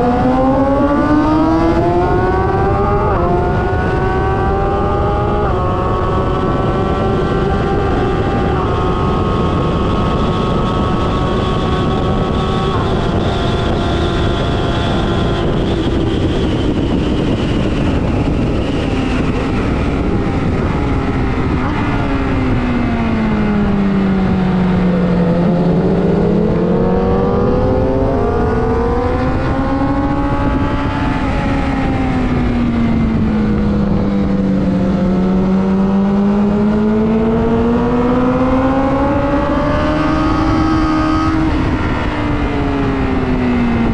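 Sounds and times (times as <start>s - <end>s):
motorcycle engine racing: 0.0s - 43.9s.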